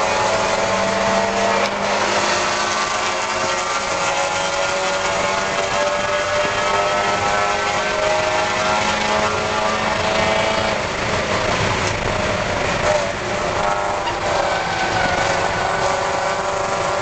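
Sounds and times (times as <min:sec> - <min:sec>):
race car engine at high revs: 0:00.0 - 0:17.0
road and wind noise: 0:00.0 - 0:17.0.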